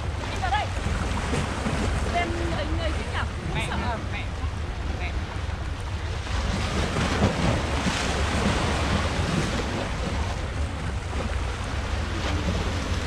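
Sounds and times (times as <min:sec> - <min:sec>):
sea waves washing in: 0:00.0 - 0:13.0
wind rumble on microphone: 0:00.0 - 0:13.0.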